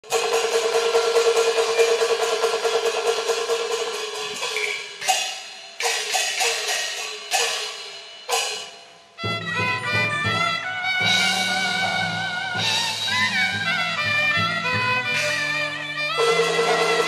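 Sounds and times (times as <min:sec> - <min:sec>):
gong and cymbal percussion: 0:00.0 - 0:17.0.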